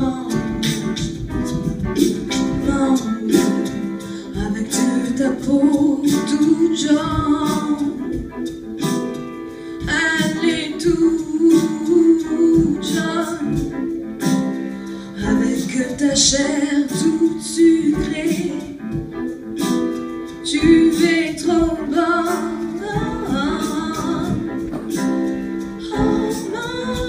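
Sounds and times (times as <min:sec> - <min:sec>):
instrumental accompaniment: 0:00.0 - 0:27.0.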